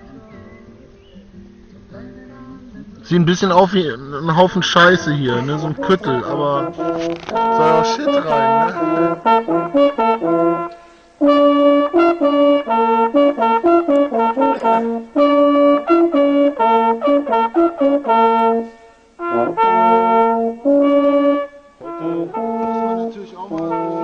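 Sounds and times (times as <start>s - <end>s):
brass instruments playing melody: 3.1s - 24.0s.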